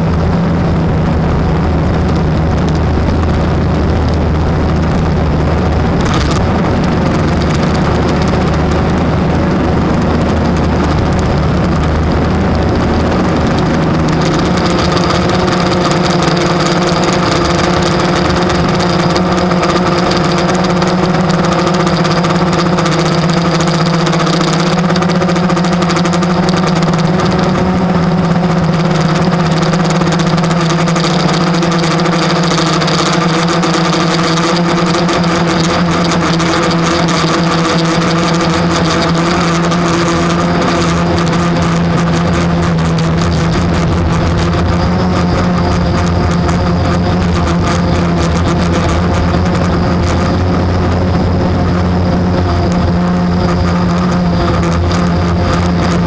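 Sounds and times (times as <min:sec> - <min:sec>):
quadcopter propellers humming: 0:00.0 - 0:56.0.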